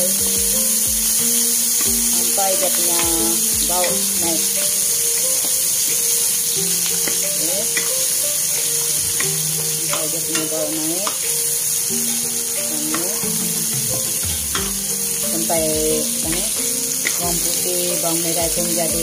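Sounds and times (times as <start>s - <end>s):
aromatics sizzling in hot oil: 0.0s - 19.0s
spatula scraping and tapping pan: 1.0s - 17.7s.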